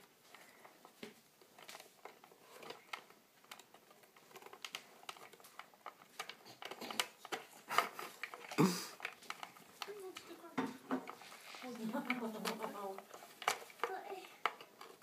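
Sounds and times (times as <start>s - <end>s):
wooden puzzle pieces clicking: 0.0s - 15.0s.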